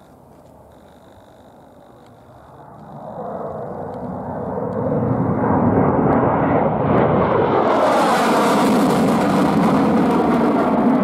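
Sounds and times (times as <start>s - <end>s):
jet flying low: 0.0s - 11.0s.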